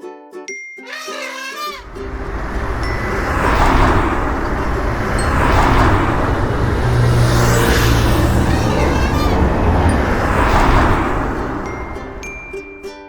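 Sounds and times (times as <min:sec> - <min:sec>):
vehicles passing: 0:01.6 - 0:13.0.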